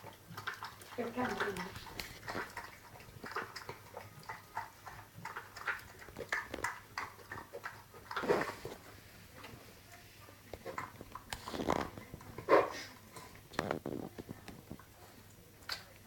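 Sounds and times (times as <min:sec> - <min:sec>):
dog licking and smacking: 0:00.0 - 0:16.0.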